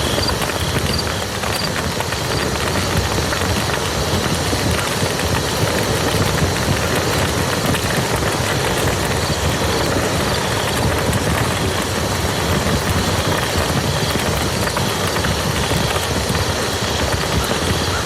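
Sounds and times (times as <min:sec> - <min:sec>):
rain falling on muddy ground: 0:00.0 - 0:18.0.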